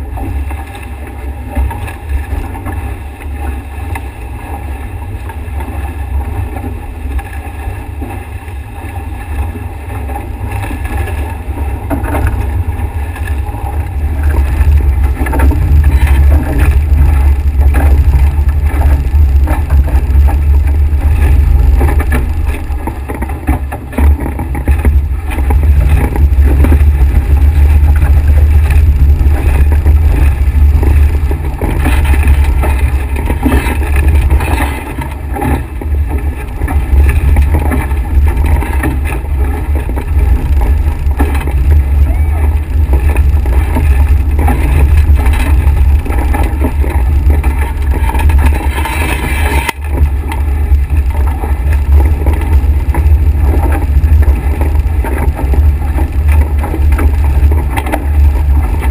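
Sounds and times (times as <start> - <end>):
water rushing along hull: 0.0 - 58.9
wind buffeting microphone: 0.0 - 58.9.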